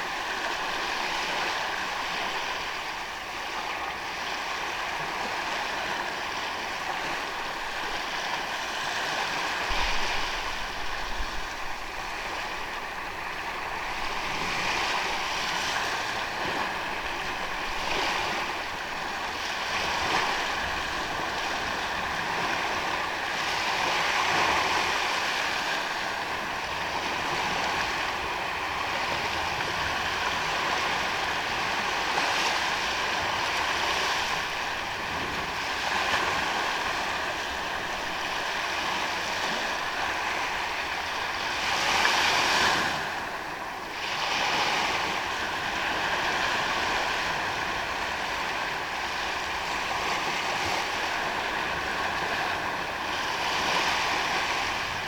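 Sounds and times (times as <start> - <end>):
ocean waves on sandy beach: 0.0 - 55.0.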